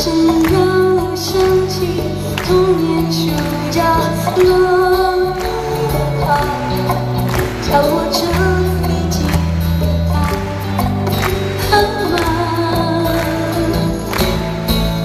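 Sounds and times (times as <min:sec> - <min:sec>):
woman singing a pop ballad: 0:00.0 - 0:14.4
band accompaniment with bass: 0:00.0 - 0:15.0.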